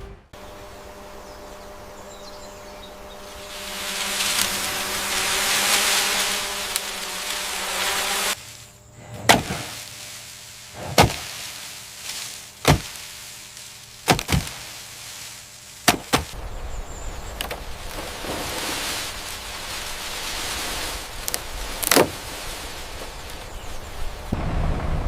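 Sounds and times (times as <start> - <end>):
noisy hum with tones: 0.0 - 25.0.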